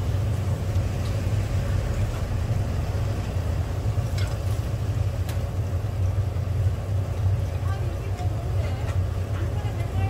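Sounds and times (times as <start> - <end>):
pancakes frying in oil: 0.0 - 9.7
steady low hum: 0.0 - 10.0.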